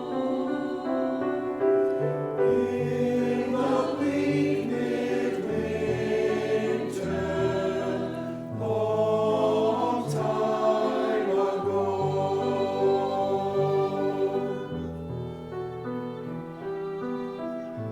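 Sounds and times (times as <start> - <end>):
choir singing a hymn: 0.0 - 15.6.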